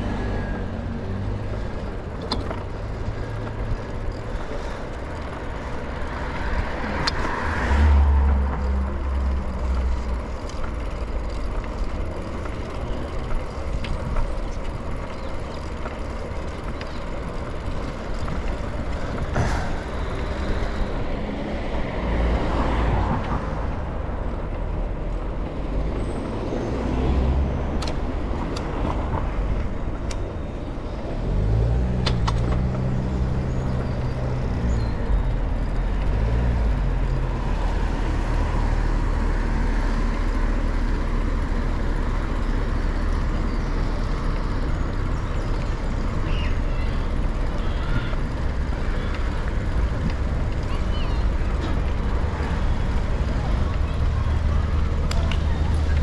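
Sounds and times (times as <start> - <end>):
street traffic rumble: 0.0 - 56.0
vehicle engine drone: 0.0 - 56.0.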